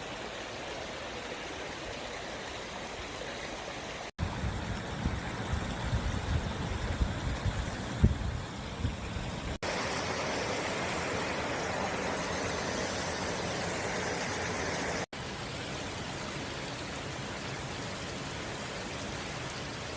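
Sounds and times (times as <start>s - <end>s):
small waterfall rushing and splashing: 0.0s - 19.9s.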